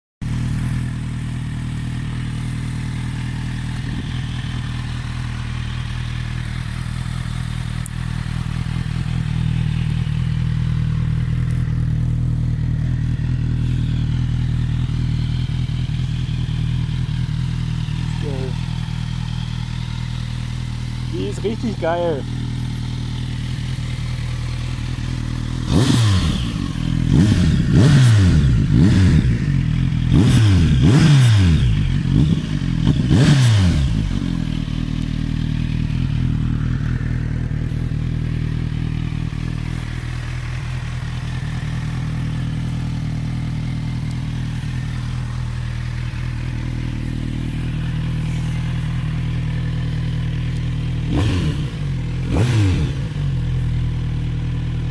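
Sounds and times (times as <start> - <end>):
motorcycle engine idling and revving: 0.2 - 54.9.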